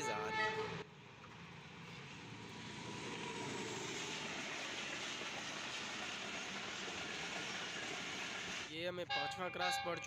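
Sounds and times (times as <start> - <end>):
train rushing past on rails: 0.0 - 8.7.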